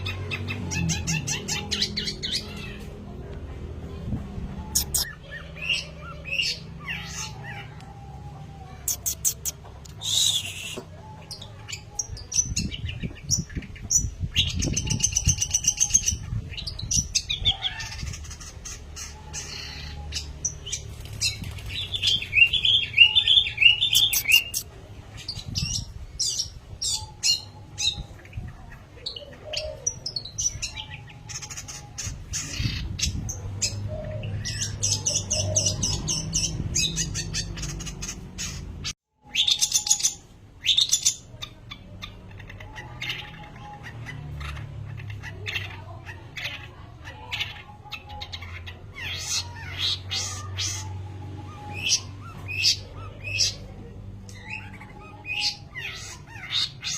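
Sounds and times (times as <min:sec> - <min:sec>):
bird chattering song: 0:00.0 - 0:56.9.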